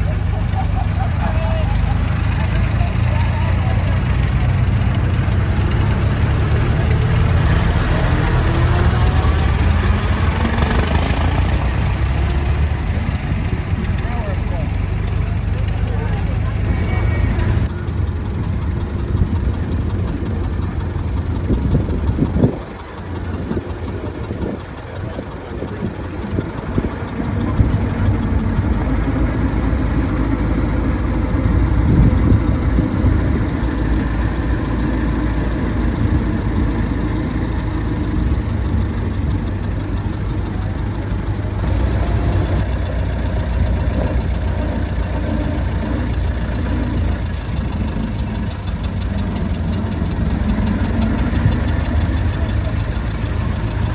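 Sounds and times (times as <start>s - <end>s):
vehicle engine low rumble: 0.0s - 53.9s.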